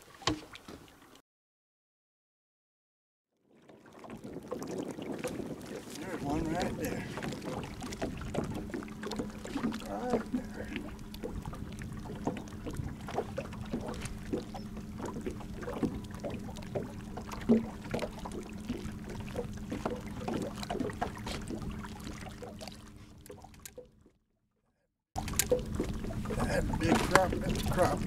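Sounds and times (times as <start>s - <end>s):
boat motor humming: 3.8s - 24.2s, 25.2s - 28.0s.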